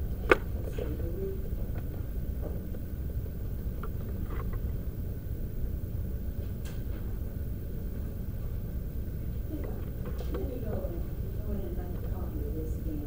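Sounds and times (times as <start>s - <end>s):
low rumble of room noise: 0.0s - 13.0s.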